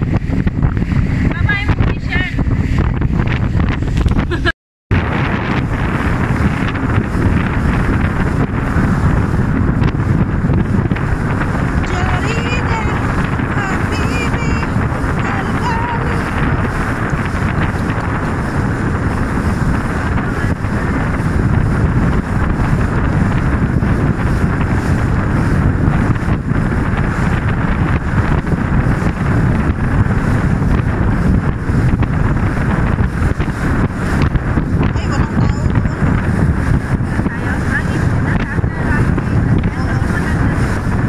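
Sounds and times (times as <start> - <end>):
boat motor running: 0.0 - 41.0
water slapping along hull: 0.0 - 41.0
wind buffeting microphone: 0.0 - 41.0.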